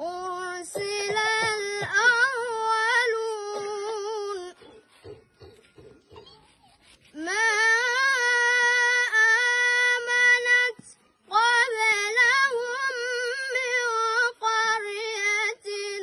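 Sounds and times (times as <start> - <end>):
boy chanting recitation: 0.0 - 6.4, 7.0 - 16.0.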